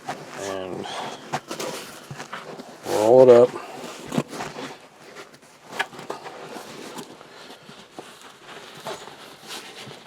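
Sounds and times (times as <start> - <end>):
carpet rustling and scuffing: 0.0 - 10.0.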